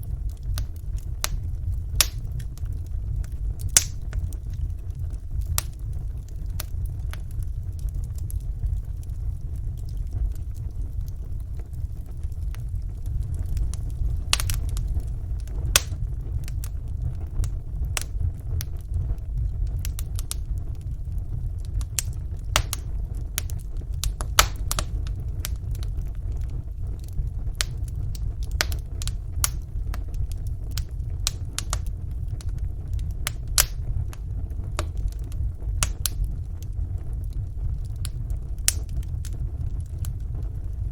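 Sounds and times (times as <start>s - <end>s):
low rumble of fire: 0.0s - 40.9s
wood fire crackling and popping: 0.0s - 40.9s.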